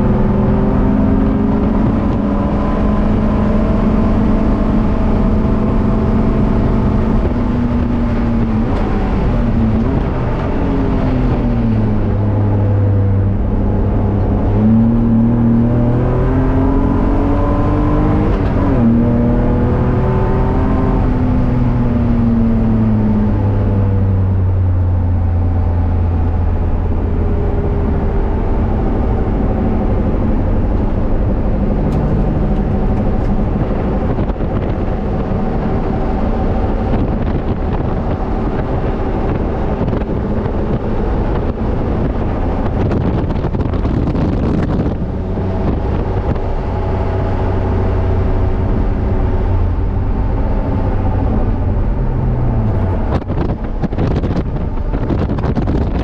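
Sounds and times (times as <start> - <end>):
car engine accelerating: 0.0 - 56.0
road and wind rush: 0.0 - 56.0.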